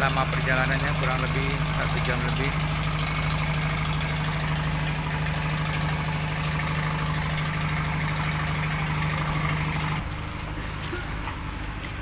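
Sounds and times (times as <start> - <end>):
boat engines idling: 0.0 - 12.0.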